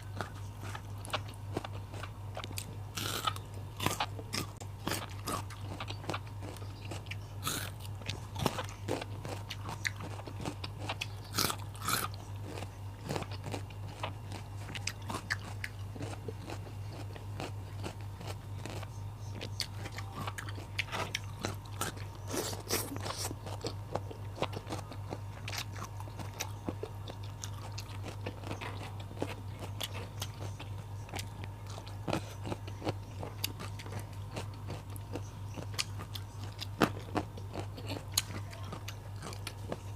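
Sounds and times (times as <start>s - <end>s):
person chewing crunchy vegetables: 0.0s - 39.9s.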